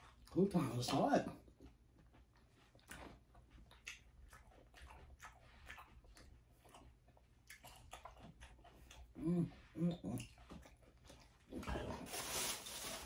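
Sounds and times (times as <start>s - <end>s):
chewing salad: 0.0s - 13.0s.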